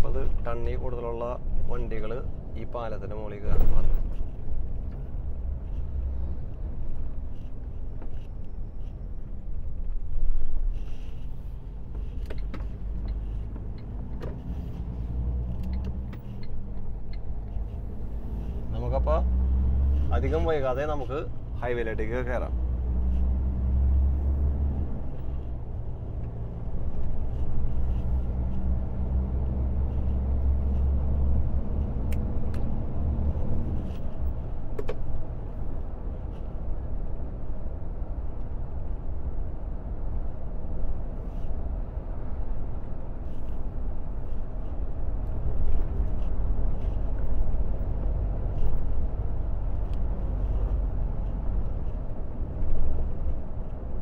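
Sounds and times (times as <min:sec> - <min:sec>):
truck engine and tyre drone: 0:00.0 - 0:54.0.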